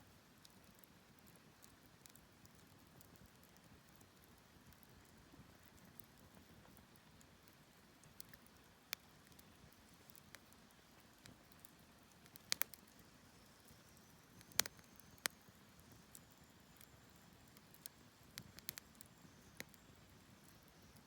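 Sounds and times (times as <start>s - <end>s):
wood fire crackling and popping: 0.4s - 21.0s.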